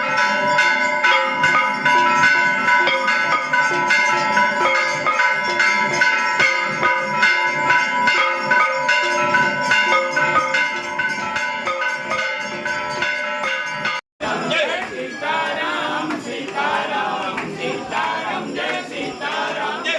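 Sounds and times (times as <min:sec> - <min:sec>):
temple bells ringing: 0:00.0 - 0:19.9.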